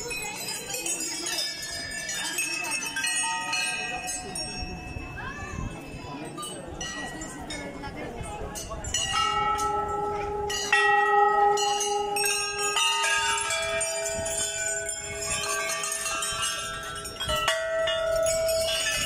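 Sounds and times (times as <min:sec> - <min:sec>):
brass bells ringing: 0:00.0 - 0:19.0.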